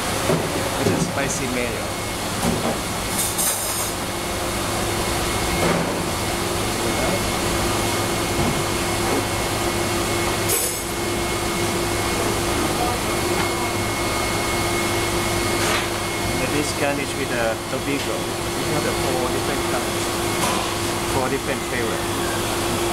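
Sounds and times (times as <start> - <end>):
kitchen ventilation fan drone: 0.0 - 22.9.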